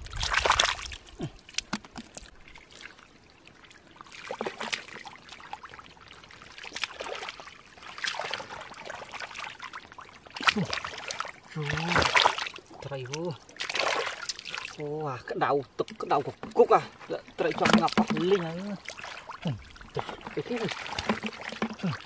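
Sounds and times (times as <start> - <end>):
hands squelching through wet mud: 0.0 - 3.1, 4.0 - 14.8, 15.8 - 22.0.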